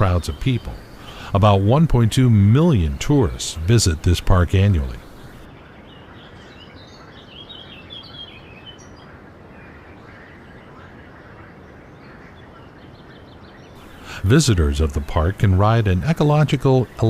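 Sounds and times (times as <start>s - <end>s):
outdoor background noise: 0.0s - 17.0s
small birds chirping: 0.0s - 17.0s.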